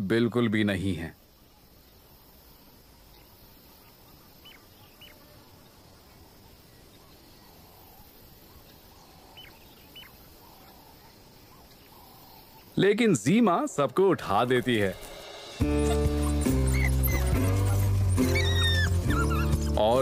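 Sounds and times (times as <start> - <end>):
soft low bird calls: 1.1 - 13.0, 15.7 - 20.0.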